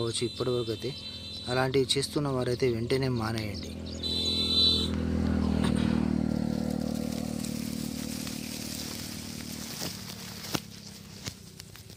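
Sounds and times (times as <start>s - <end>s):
low engine hum: 0.0s - 11.9s.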